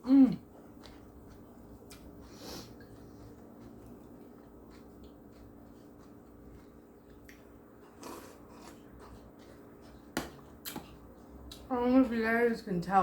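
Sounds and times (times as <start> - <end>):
quiet eating sounds: 0.0 - 12.2
faint room hum: 0.0 - 13.0.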